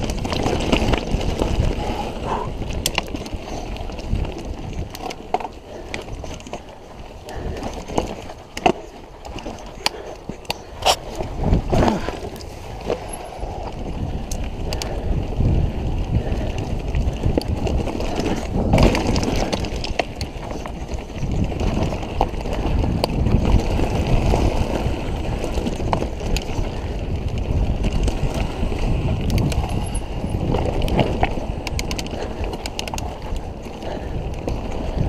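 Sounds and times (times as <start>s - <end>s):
bike clicking and rattling: 0.0s - 35.0s
bike tyres rumbling on stones: 0.0s - 35.0s
wind on microphone: 0.0s - 35.0s.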